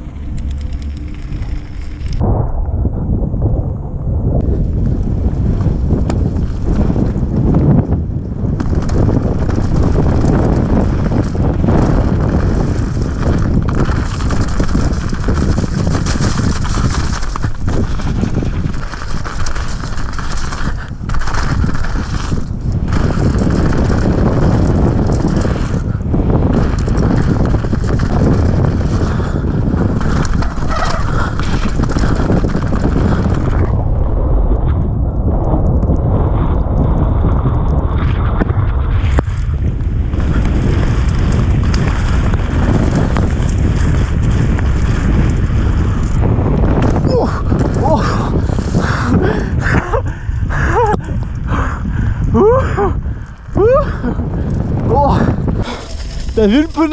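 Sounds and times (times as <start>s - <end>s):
bike frame and chain rattling: 0.0s - 2.2s, 6.2s - 33.7s, 40.1s - 56.9s
wind on microphone: 0.0s - 56.9s.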